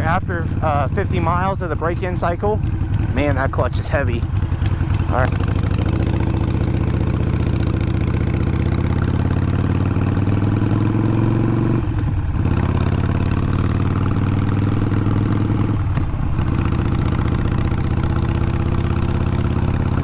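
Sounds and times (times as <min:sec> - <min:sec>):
motorcycle engine pulling away: 0:00.0 - 0:20.0.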